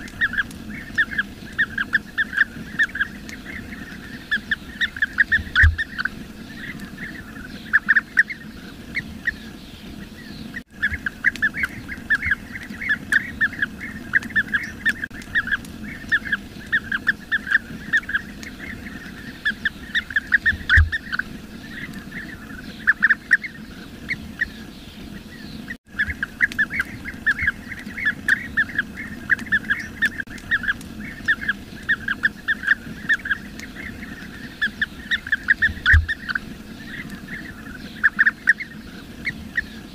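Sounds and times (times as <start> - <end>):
flock of birds calling: 0.0 - 39.9.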